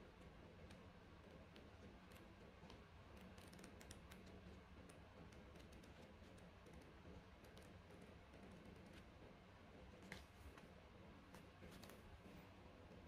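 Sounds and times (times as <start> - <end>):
quiet room hum: 0.0 - 13.0.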